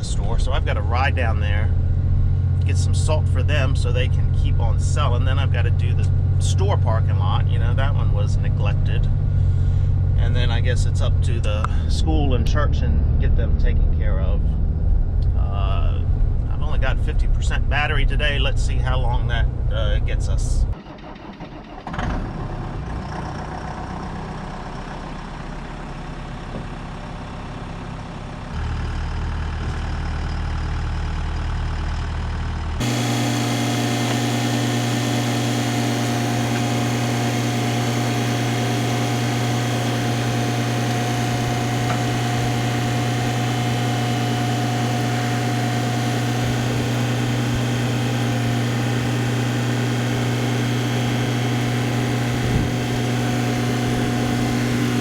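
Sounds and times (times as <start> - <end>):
vehicle engine running: 0.0 - 21.2, 22.0 - 55.0.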